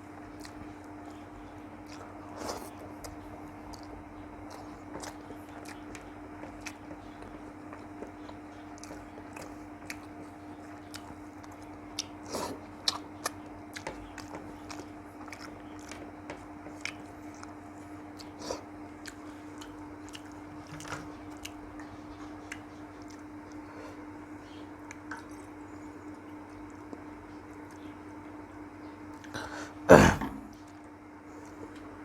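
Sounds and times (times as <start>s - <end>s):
close chewing and mouth smacks: 0.0s - 29.4s, 30.5s - 32.0s
steady low hum: 0.0s - 32.0s.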